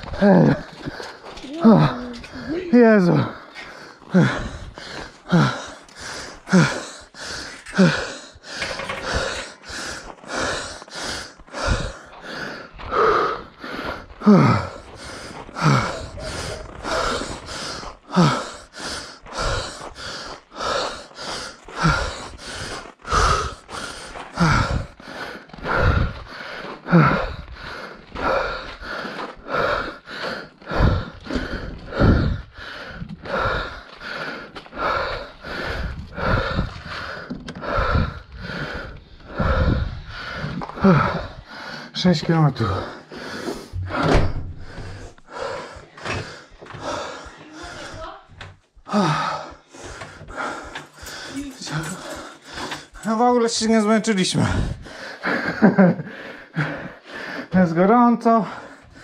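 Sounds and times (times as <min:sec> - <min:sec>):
runner breathing hard: 0:00.0 - 0:59.0.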